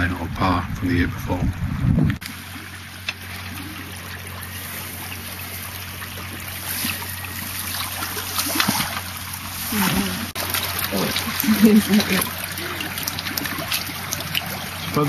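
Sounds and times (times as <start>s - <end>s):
steady low hum: 0.0s - 15.0s
water running over a riffle: 2.2s - 15.0s
water splashes: 2.2s - 15.0s.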